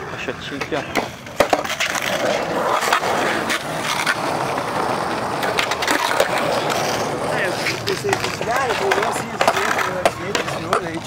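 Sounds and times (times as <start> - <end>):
skateboard clacking on ground: 0.0 - 11.0
skateboard wheels rolling on concrete: 0.0 - 11.0.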